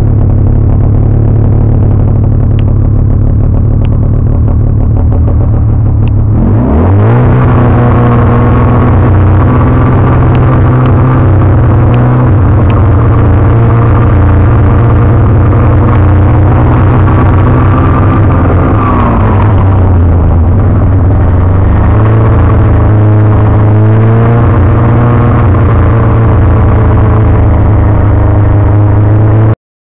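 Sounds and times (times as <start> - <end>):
snowmobile engine revving: 5.5 - 29.6.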